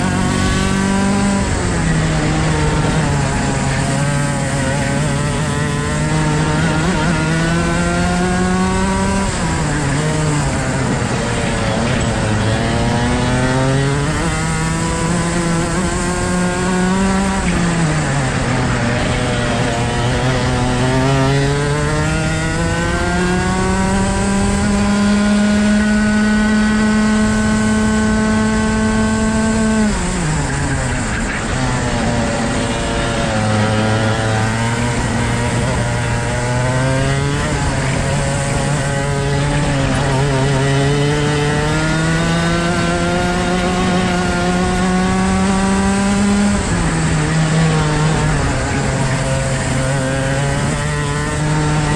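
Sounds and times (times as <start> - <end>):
kart engine revving: 0.0 - 51.9.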